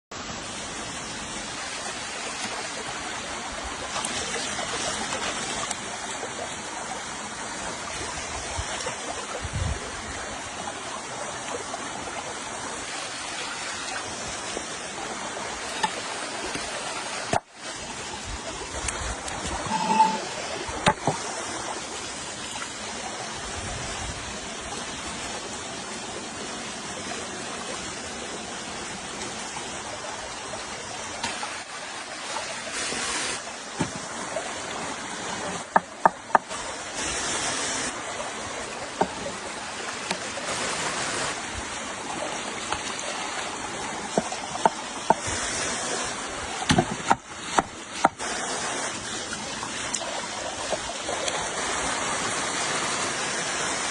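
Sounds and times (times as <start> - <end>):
river water rushing: 0.2 - 53.9.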